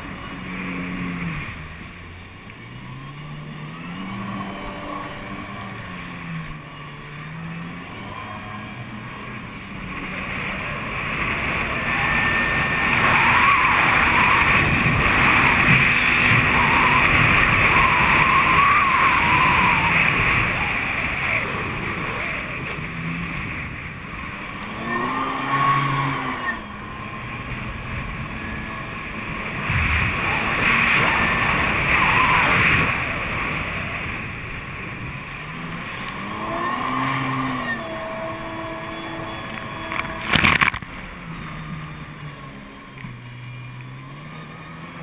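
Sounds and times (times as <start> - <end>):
jet ski engine: 0.0 - 45.0
rushing water and wind: 0.0 - 45.0.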